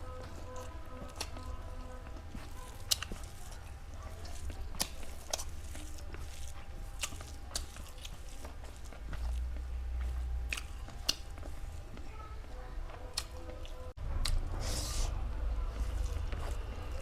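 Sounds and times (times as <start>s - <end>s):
steady low hum: 0.0s - 17.0s
wet chewing and biting: 0.0s - 17.0s.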